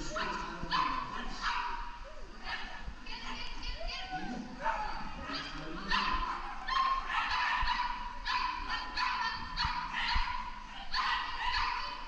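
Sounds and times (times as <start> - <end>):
dog barking in high yaps: 0.2 - 2.8, 4.6 - 12.0.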